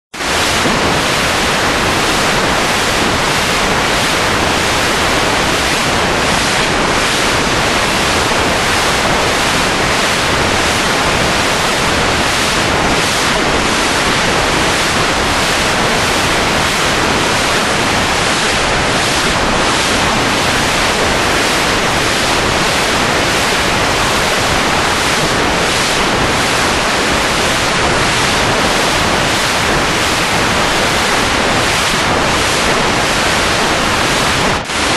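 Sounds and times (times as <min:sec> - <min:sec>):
loud static-like rushing noise: 0:00.1 - 0:34.9.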